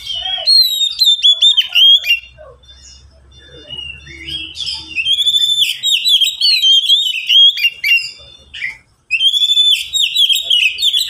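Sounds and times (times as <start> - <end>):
bird singing whistled notes and trills: 0.0 - 11.0.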